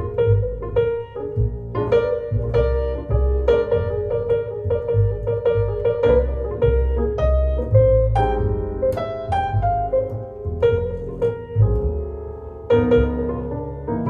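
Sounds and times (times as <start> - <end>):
piano notes: 0.0 - 14.0
sustained low bass notes: 0.0 - 14.0.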